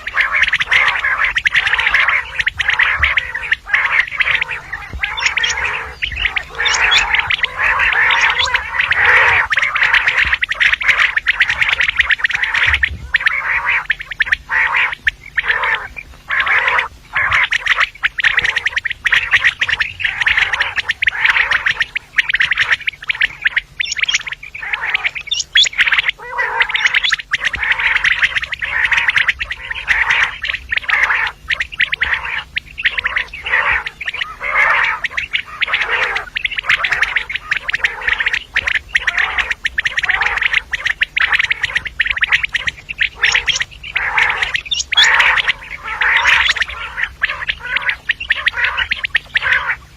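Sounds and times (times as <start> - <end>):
quail calling: 0.0 - 49.9.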